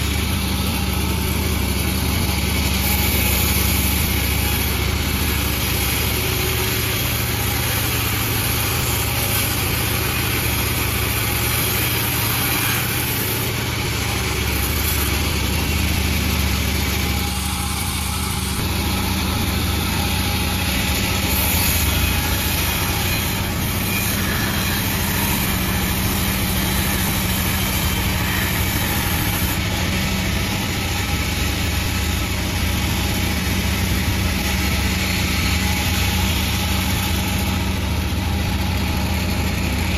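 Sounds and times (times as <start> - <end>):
sawmill machine humming: 0.0 - 39.9.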